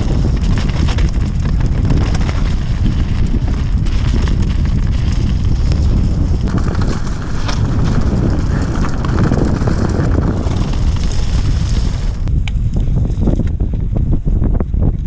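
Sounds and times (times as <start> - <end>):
bike rattling and knocking: 0.0 - 15.0
wind buffeting microphone: 0.0 - 15.0.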